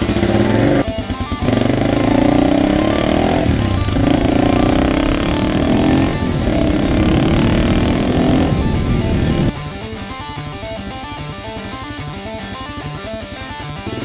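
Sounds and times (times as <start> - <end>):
background music: 0.0 - 14.0
motorcycle engine accelerating: 0.0 - 14.0.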